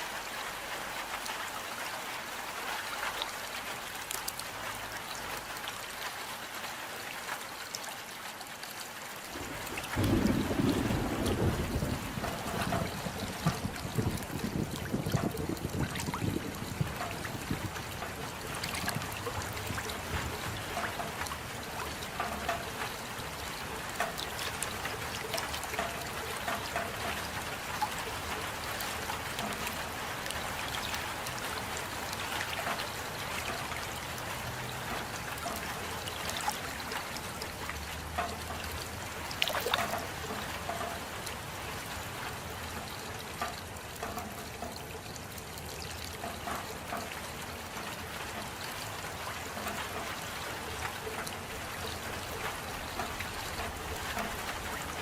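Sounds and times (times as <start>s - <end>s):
steady rain: 0.0s - 55.0s
water trickling and dripping: 0.0s - 55.0s.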